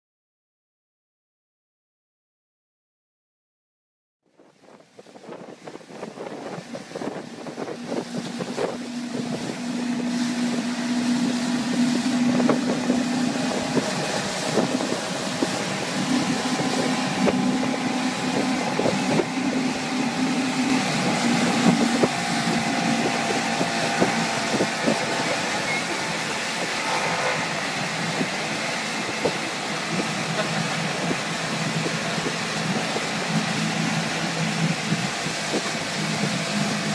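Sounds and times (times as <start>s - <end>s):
wind noise on microphone: 4.3s - 36.9s
motor humming: 6.5s - 36.9s.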